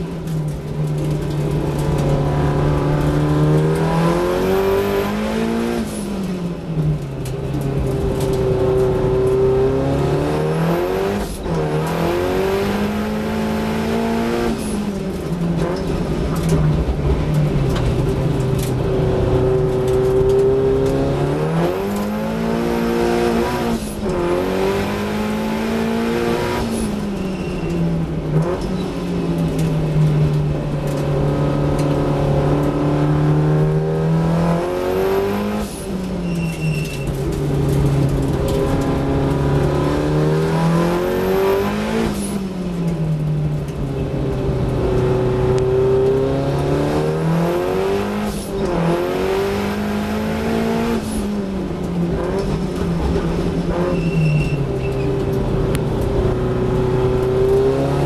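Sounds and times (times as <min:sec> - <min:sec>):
race car engine revving: 0:00.2 - 0:27.5, 0:37.1 - 0:43.0, 0:44.7 - 0:58.0.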